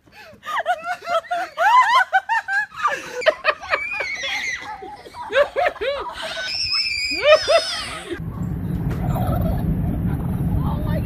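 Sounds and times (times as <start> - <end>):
high-pitched laughter: 0.4 - 8.2, 8.9 - 10.6.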